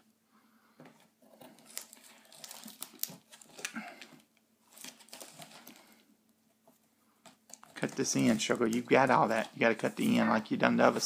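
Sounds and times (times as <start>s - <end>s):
cardboard rustling: 0.8s - 11.0s.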